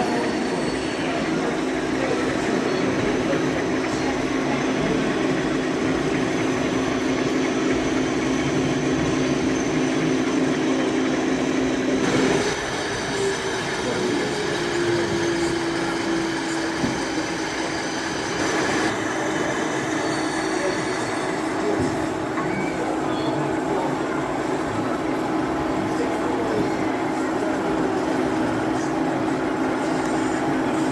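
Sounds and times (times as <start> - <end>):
murmur of chatter: 0.0 - 30.9.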